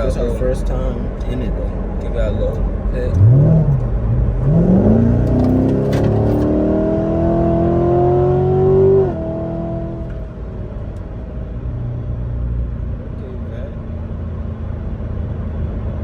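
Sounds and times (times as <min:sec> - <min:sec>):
car engine accelerating hard: 0:01.5 - 0:16.0.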